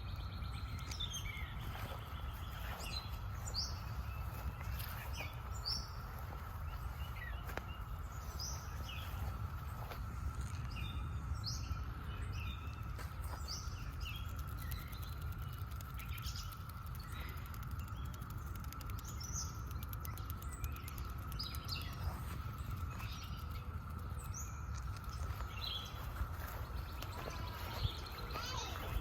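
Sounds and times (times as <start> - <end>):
cicada chorus drone: 0.0 - 17.2, 17.9 - 29.0
birds chirping: 0.0 - 29.0
low rumble: 0.0 - 29.0.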